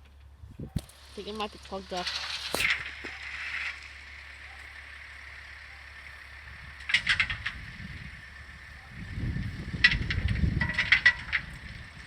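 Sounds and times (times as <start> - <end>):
ballast rattling clatter: 0.0 - 4.4, 6.2 - 12.0
low rumble: 0.0 - 12.0.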